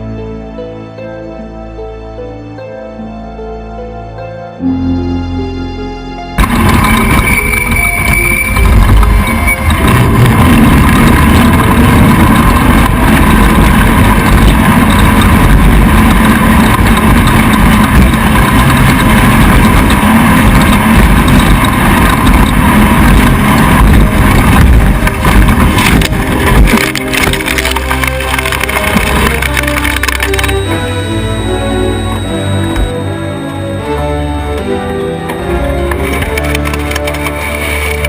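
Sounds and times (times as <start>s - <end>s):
race vehicle engine running hard: 6.4s - 38.0s.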